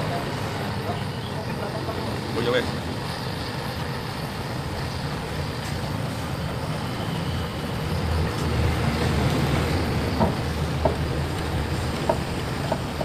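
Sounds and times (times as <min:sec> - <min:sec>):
gas torch burning: 0:00.0 - 0:13.0.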